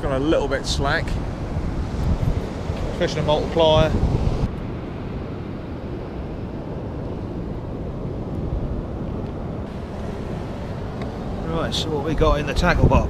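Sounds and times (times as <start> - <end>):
surf washing on beach: 0.0 - 13.0
wind across microphone: 0.0 - 13.0.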